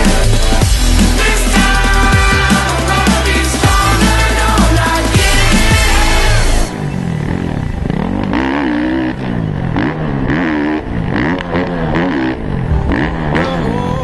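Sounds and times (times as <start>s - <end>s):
pit bike engine revving: 0.0s - 14.0s.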